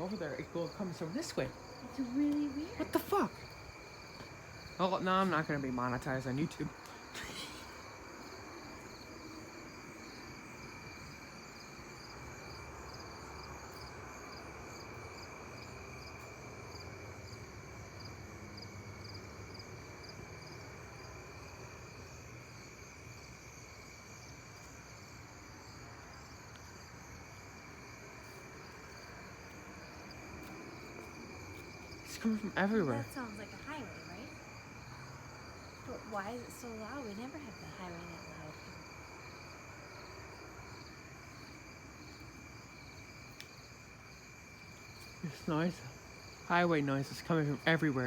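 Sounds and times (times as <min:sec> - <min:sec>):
crickets and insects chirping: 0:00.0 - 0:48.0
pulsing insect trill: 0:00.0 - 0:48.0.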